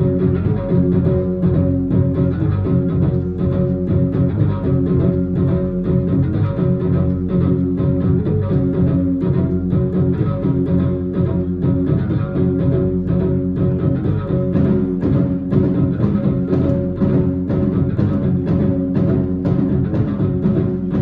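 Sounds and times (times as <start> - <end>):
amplified electric guitars: 0.0 - 21.0
drum kit beat: 0.0 - 21.0
sustained low notes: 0.0 - 21.0.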